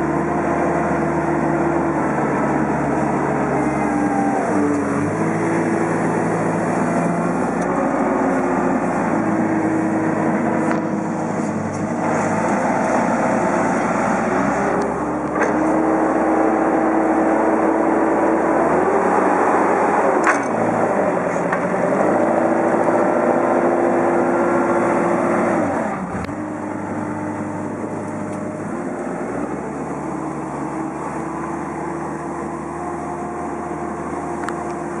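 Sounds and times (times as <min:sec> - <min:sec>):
forklift diesel engine revving: 0:00.0 - 0:35.0.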